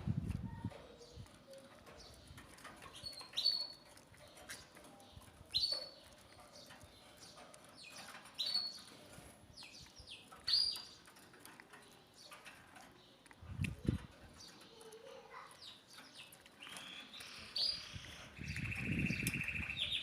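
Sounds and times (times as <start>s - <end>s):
faint ticking and pattering: 0.5s - 17.6s
canaries chirping: 0.5s - 20.0s.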